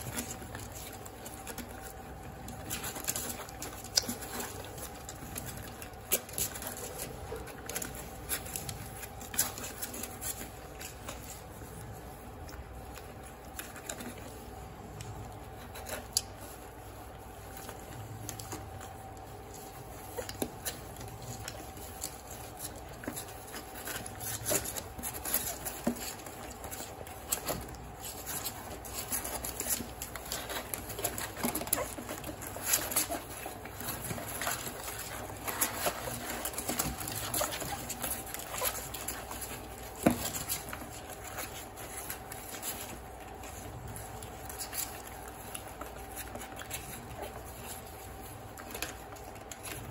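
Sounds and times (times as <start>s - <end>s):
puppies suckling: 0.0s - 49.9s.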